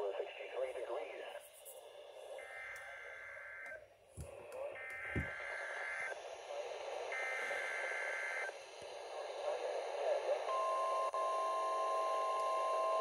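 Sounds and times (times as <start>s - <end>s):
receiver hiss: 0.0s - 12.4s.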